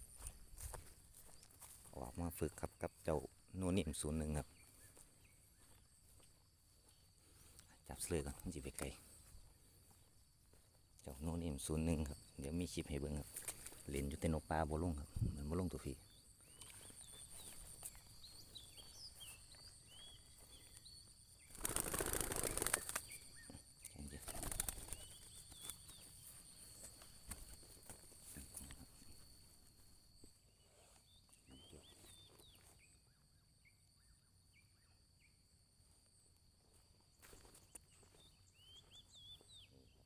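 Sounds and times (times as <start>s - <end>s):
small birds chirping: 0.0s - 35.4s, 37.1s - 40.0s
high-pitched insect drone: 0.0s - 38.2s.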